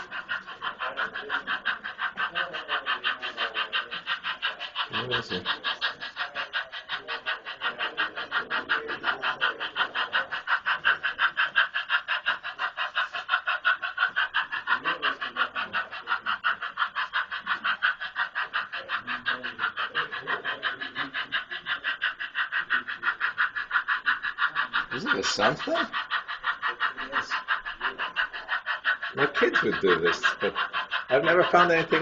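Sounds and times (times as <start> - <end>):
model steam locomotive chuffing: 0.0 - 32.0.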